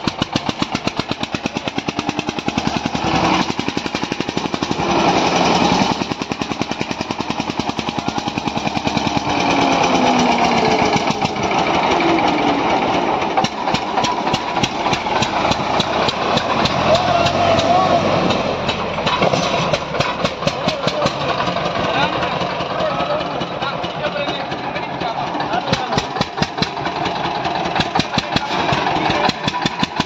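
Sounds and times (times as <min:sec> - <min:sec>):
tractor diesel engines under load: 0:00.0 - 0:30.0.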